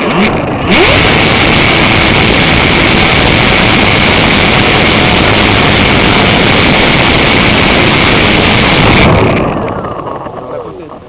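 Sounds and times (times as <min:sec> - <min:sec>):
electric motor whining: 0:00.0 - 0:11.0
propeller rushing noise: 0:00.0 - 0:11.0.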